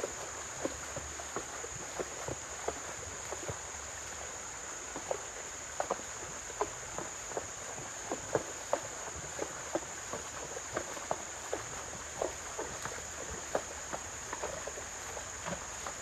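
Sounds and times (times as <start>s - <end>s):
hooves splashing in water: 0.0s - 16.0s.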